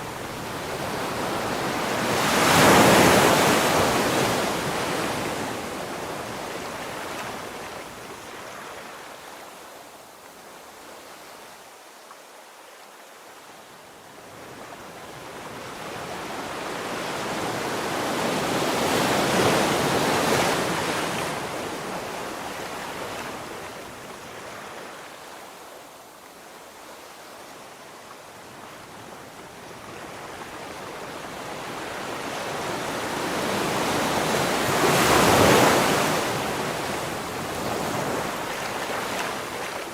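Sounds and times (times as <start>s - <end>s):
sea waves washing ashore: 0.0s - 11.8s, 13.6s - 39.9s.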